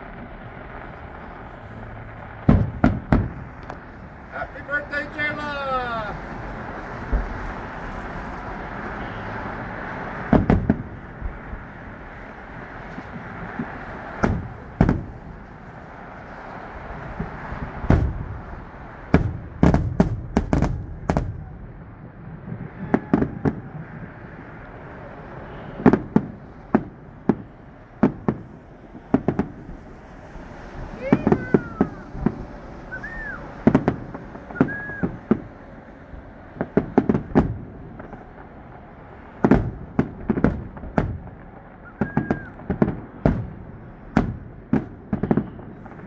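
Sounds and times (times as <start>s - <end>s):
fireworks bangs: 0.0s - 46.0s.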